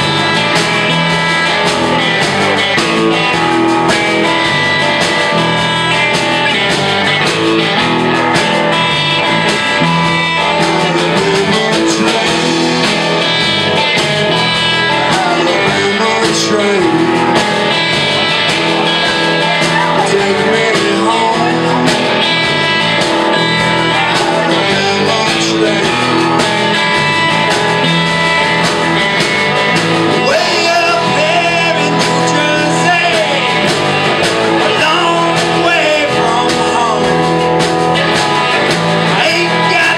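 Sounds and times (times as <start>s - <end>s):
bass guitar: 0.0s - 39.9s
distorted electric guitars: 0.0s - 39.9s
drum kit beat: 0.0s - 39.9s.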